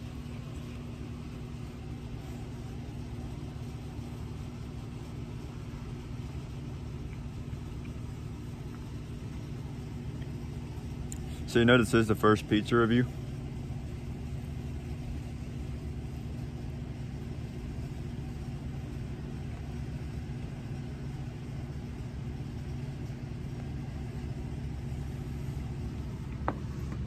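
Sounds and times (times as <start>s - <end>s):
faint hum: 0.0s - 27.0s
steady low rumble: 0.0s - 27.0s.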